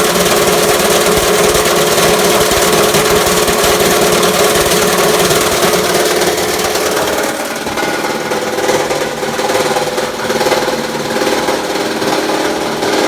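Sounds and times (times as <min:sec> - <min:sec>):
plastic granulator humming and rattling: 0:00.0 - 0:13.0.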